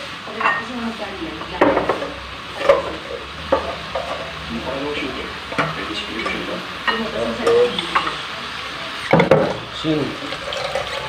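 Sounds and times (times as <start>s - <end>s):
fish sizzling in a wok: 0.0s - 11.0s.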